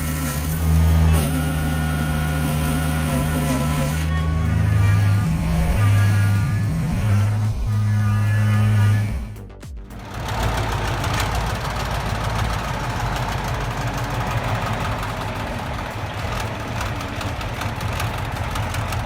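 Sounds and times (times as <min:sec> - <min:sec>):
large engine rumbling: 0:00.0 - 0:19.0.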